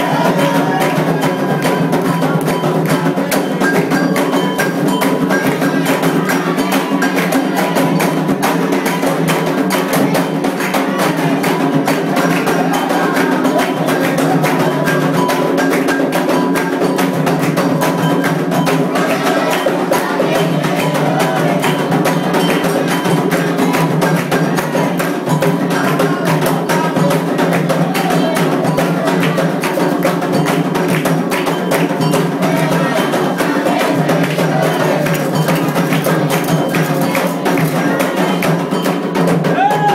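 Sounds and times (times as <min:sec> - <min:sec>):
struck bell: 0:00.0 - 0:10.5, 0:11.2 - 0:39.5
hand drums playing rhythm: 0:00.0 - 0:39.9.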